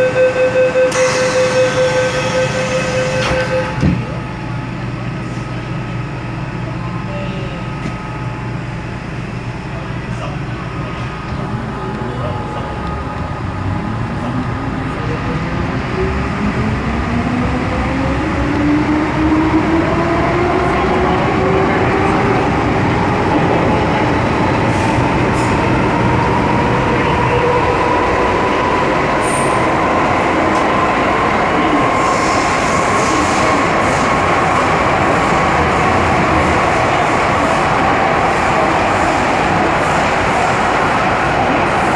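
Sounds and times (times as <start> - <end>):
metro traction motor whine: 0.0 - 41.9.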